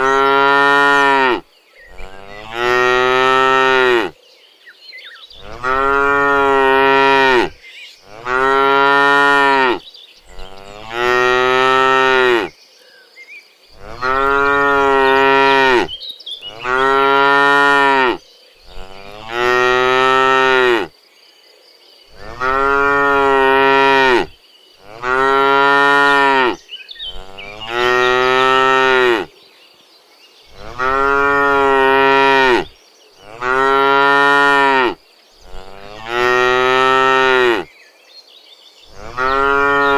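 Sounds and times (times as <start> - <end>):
cattle mooing: 0.0 - 4.1, 5.4 - 9.8, 10.4 - 12.5, 13.8 - 15.9, 16.5 - 20.9, 22.2 - 29.3, 30.6 - 37.7, 38.9 - 39.9.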